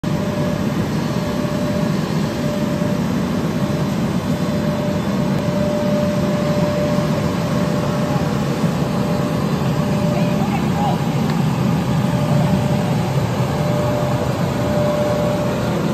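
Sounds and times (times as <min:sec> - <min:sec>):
machine hum with whine: 0:00.0 - 0:15.9.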